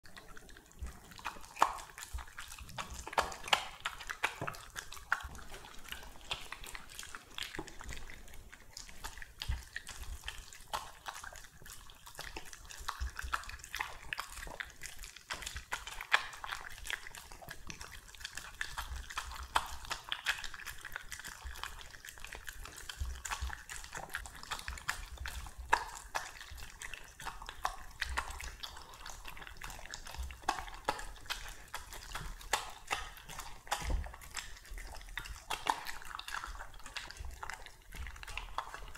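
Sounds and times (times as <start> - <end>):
dog chomping and slurping food: 0.0 - 38.9.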